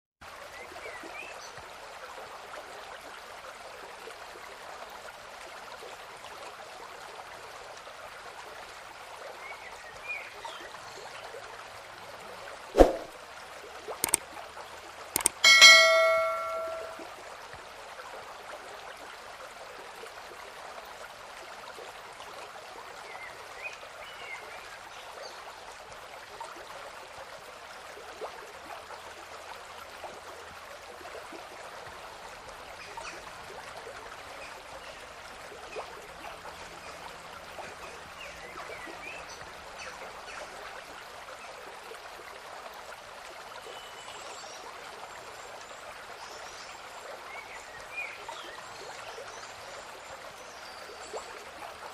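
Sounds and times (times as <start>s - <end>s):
river water running: 0.2s - 51.9s.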